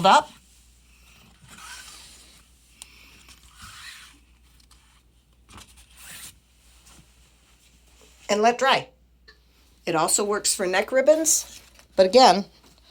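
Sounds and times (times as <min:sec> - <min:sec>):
ribbon rustling and scraping: 0:00.0 - 0:08.3, 0:10.7 - 0:12.9.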